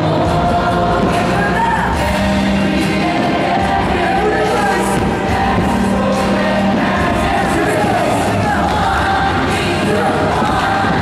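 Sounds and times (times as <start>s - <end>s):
amplified backing music: 0.0s - 11.0s
choir and crowd singing: 0.0s - 11.0s.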